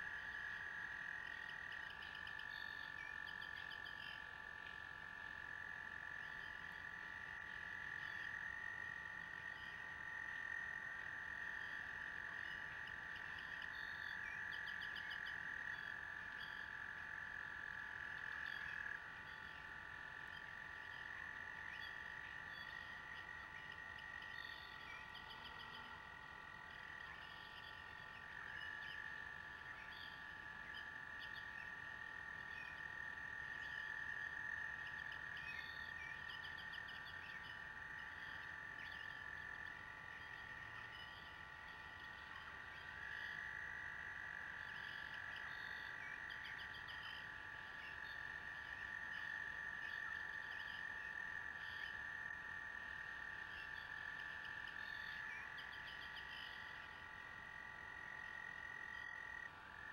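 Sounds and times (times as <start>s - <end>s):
frogs trilling: 0.0s - 59.9s.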